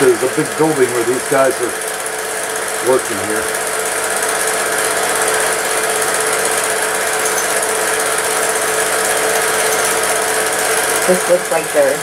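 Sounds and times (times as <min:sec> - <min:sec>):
film projector clattering: 0:00.0 - 0:11.8.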